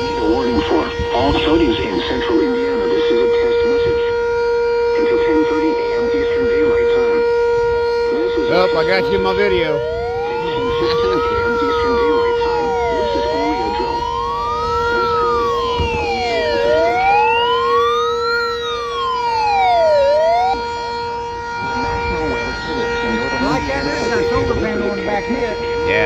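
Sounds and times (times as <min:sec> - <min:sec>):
electronic siren wailing: 0:00.0 - 0:26.0
warning siren steady tone: 0:00.0 - 0:26.0.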